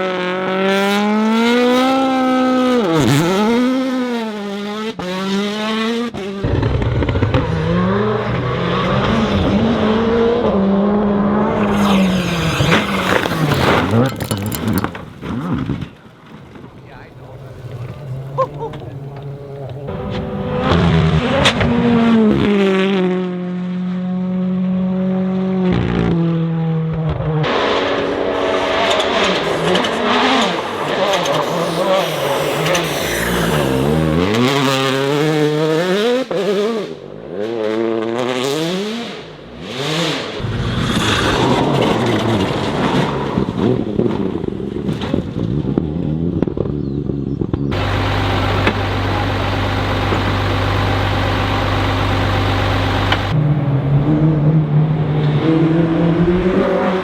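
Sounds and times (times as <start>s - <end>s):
rally car engines at full throttle: 0.0s - 57.0s.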